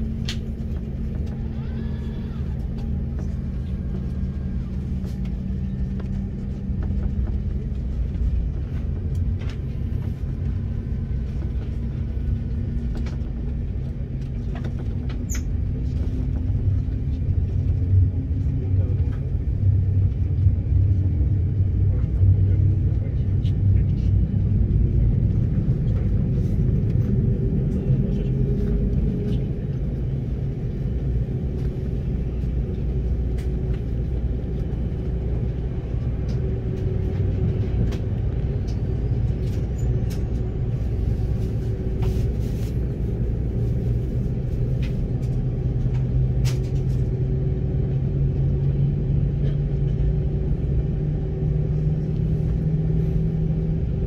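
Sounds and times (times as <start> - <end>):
airplane cabin rumble: 0.0 - 54.0
low engine hum: 0.0 - 54.0.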